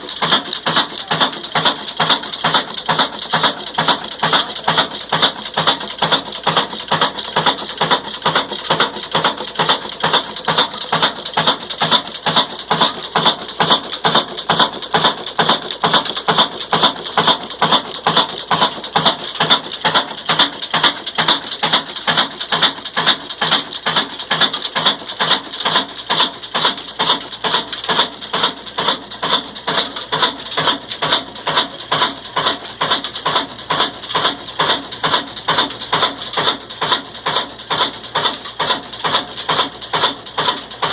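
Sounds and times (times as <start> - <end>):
diesel engine running a mill: 0.0 - 40.9
steady even clacking: 0.0 - 40.9.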